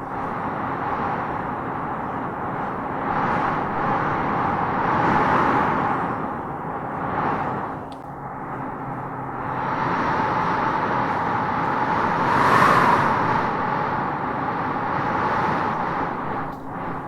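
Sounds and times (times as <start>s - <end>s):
howling wind through trees: 0.0s - 17.0s.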